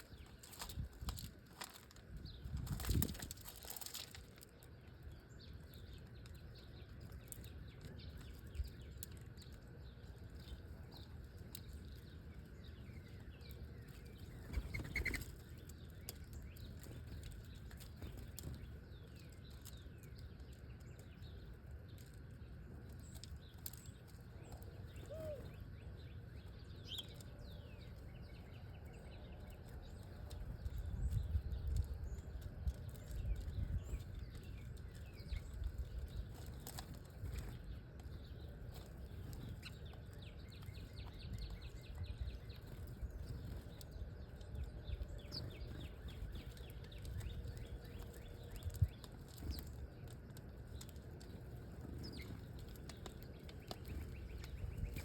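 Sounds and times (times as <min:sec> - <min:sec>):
wings fluttering: 0:00.0 - 0:05.1, 0:06.9 - 0:25.7, 0:26.9 - 0:55.0
small birds chirping: 0:00.0 - 0:55.0.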